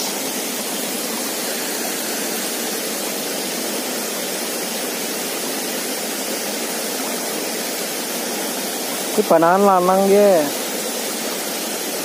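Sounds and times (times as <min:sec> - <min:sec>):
waterfall spilling over rocks: 0:00.0 - 0:12.0.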